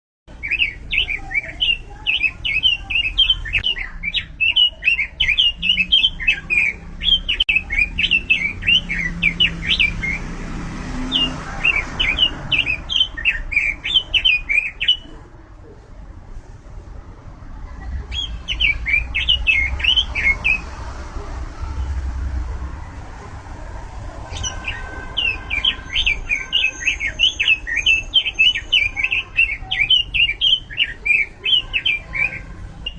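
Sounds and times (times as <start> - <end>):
bird warbling song: 0.3 - 15.2, 17.8 - 21.0, 24.2 - 32.9.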